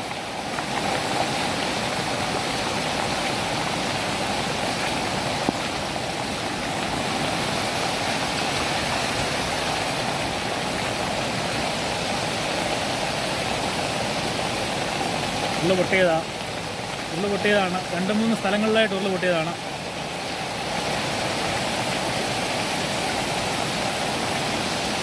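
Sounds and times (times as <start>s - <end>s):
water rushing along a road: 0.0s - 25.0s.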